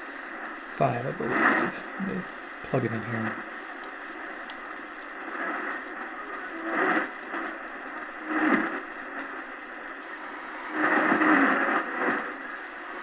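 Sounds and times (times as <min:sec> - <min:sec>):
faint radio signal: 0:00.0 - 0:13.0
shortwave radio static: 0:00.0 - 0:13.0.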